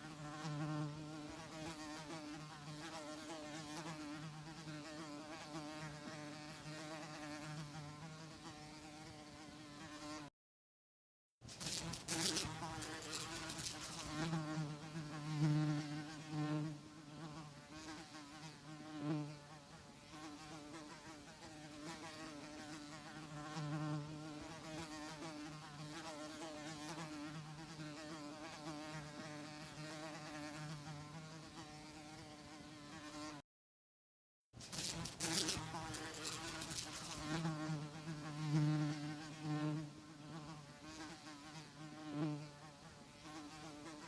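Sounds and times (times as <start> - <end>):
housefly buzzing: 0.0 - 10.3, 11.5 - 33.4, 34.6 - 44.0.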